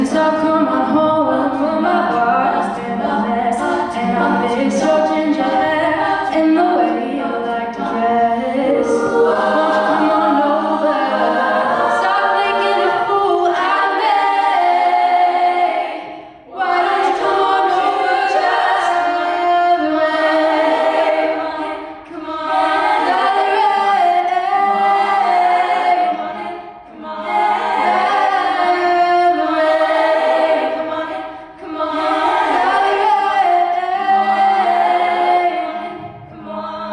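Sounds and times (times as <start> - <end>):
vocal ensemble singing in harmony: 0.0 - 36.9.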